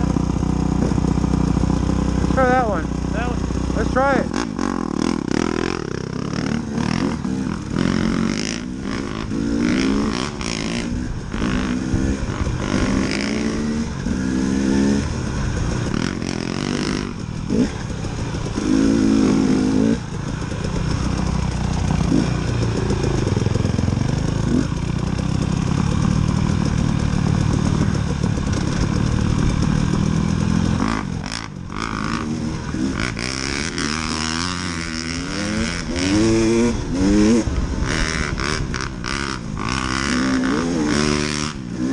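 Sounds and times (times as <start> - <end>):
knocks and rattles over bumps: 0.0 - 41.7
dirt bike engine revving: 0.0 - 41.9.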